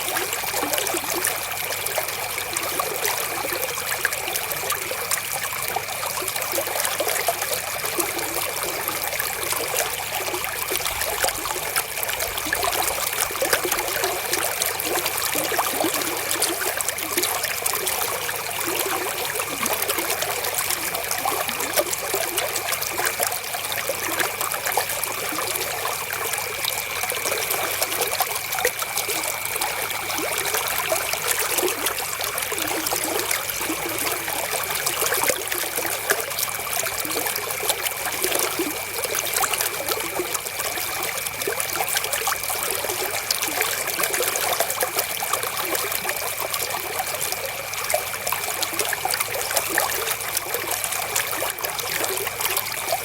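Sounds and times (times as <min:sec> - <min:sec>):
river water flowing over stones: 0:00.0 - 0:53.0.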